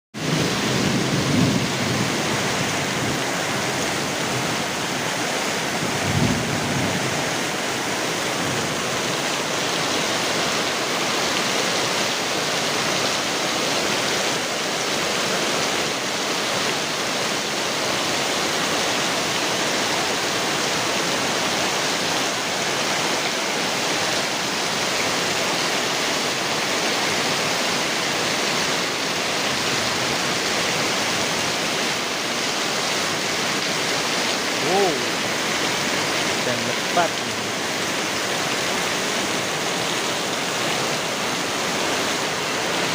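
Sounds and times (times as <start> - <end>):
heavy rain pouring: 0.2 - 42.9.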